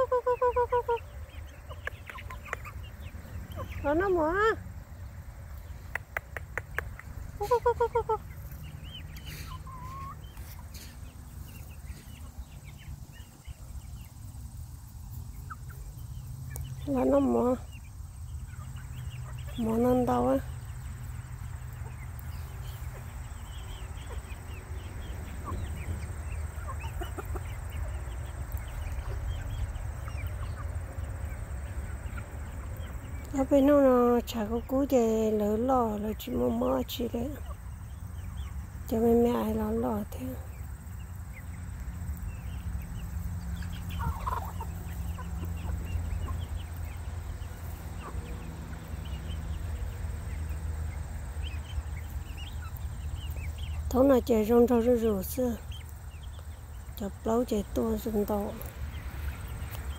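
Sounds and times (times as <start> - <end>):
chicks chirping and clucking: 0.0 - 59.9.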